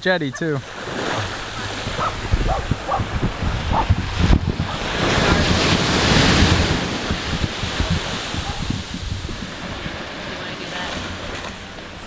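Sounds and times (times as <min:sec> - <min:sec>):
small waves breaking on sand: 0:00.4 - 0:12.0
wind buffeting microphone: 0:00.4 - 0:12.0.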